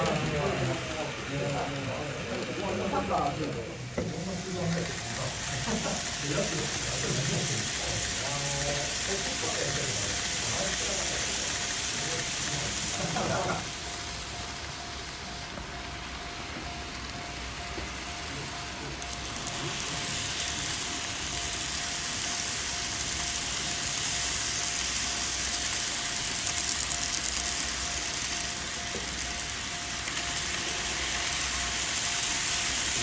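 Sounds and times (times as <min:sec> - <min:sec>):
model train wheels and motor whirring: 0:00.0 - 0:33.0.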